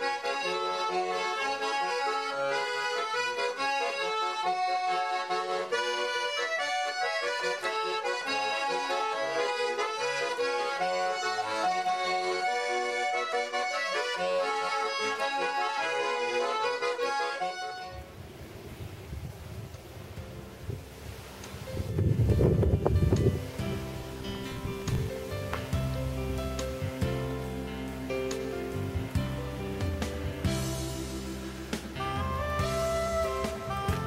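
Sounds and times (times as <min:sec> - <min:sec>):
instrumental background music: 0:00.0 - 0:18.1, 0:20.1 - 0:34.0.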